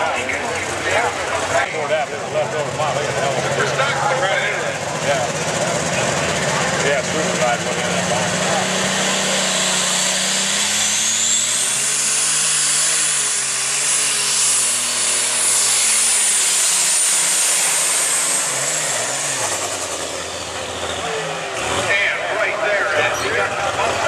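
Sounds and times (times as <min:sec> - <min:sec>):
diesel engine running flat out: 0:00.0 - 0:24.0
turbocharger whine: 0:00.1 - 0:24.0.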